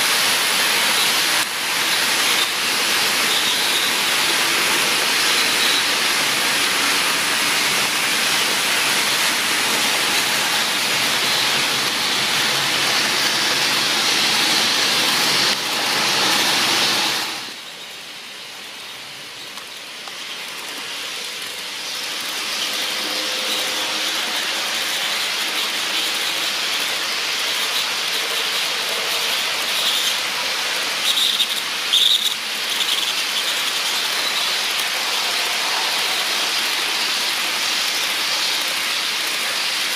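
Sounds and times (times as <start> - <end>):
model train wheels rolling on rails: 0.0 - 39.9
wheel squeals: 0.6 - 17.9, 19.3 - 39.9.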